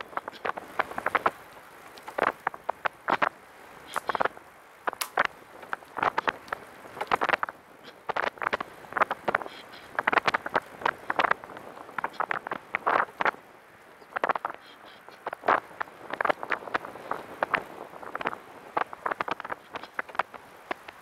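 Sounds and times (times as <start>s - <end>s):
faint steady background noise: 0.0s - 21.0s.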